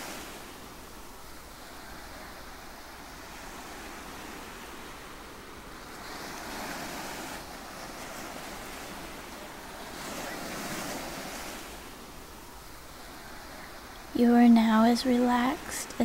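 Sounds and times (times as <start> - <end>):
ocean surf: 0.0 - 16.0.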